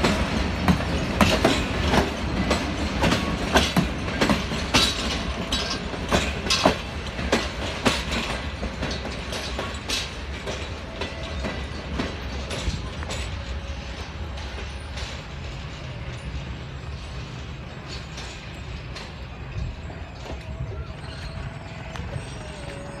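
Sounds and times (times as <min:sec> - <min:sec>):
rumble of wheels on rail: 0:00.0 - 0:23.0
wheels clacking over rail joints: 0:00.0 - 0:23.0.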